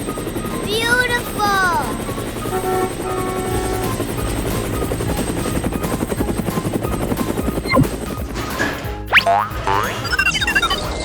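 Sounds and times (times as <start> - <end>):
helicopter rotor chopping effect: 0.0 - 11.0.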